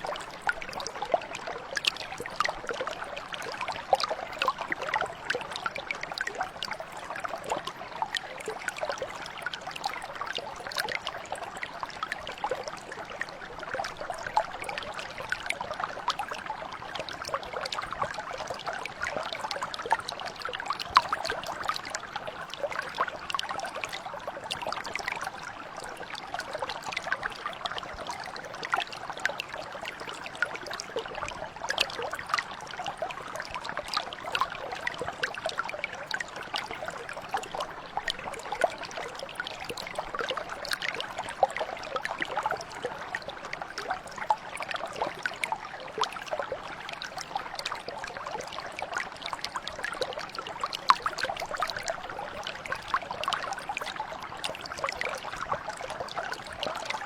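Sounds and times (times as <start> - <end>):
brook flowing and trickling: 0.0 - 57.0.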